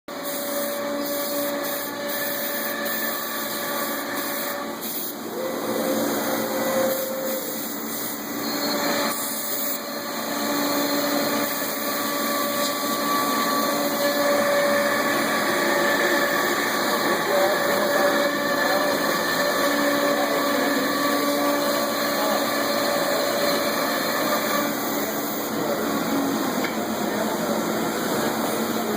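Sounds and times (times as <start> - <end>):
router spindle cutting: 0.1 - 28.9.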